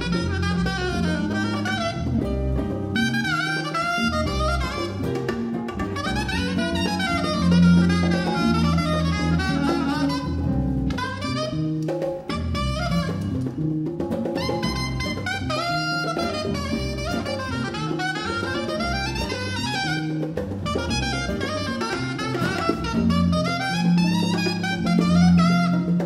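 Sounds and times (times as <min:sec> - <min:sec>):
jazz band playing: 0:00.0 - 0:26.0
saxophone: 0:00.0 - 0:26.0.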